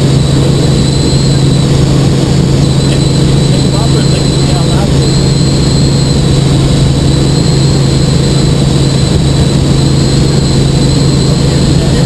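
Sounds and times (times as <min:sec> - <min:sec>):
helicopter engine and rotor drone: 0:00.0 - 0:12.0
high-pitched whine: 0:00.0 - 0:12.0.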